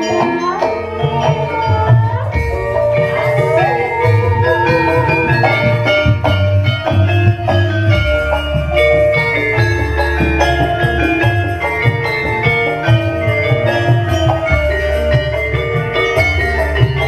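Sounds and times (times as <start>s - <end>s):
drums: 0.0s - 17.0s
metal mallet instruments melody: 0.0s - 17.0s.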